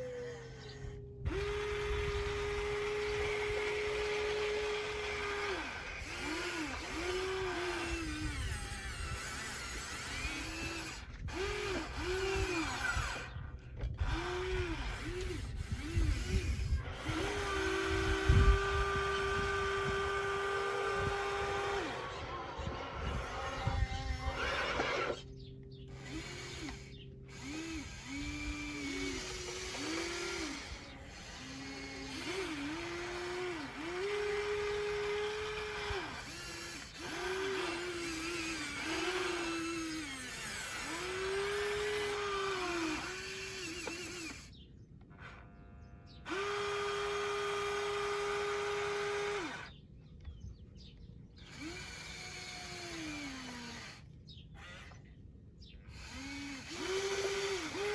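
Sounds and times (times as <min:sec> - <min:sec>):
small electric motors whining: 0:00.0 - 0:57.9.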